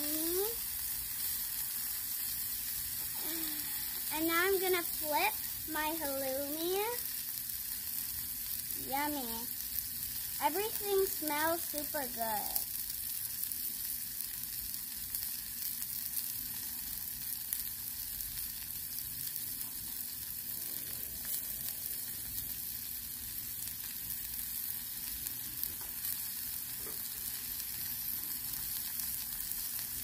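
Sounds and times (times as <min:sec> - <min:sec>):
food sizzling on a griddle: 0:00.0 - 0:30.0.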